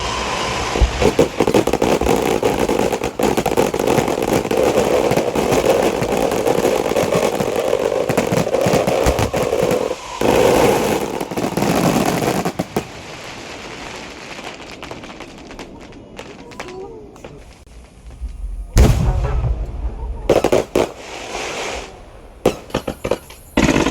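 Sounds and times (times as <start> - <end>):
firecrackers crackling: 0.0 - 23.9.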